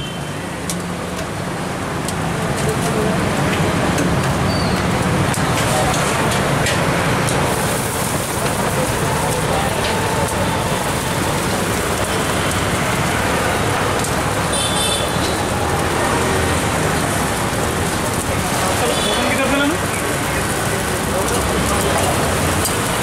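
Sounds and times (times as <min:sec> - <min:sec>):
street traffic rumble: 0:00.0 - 0:23.0
food sizzling on a griddle: 0:01.0 - 0:23.0.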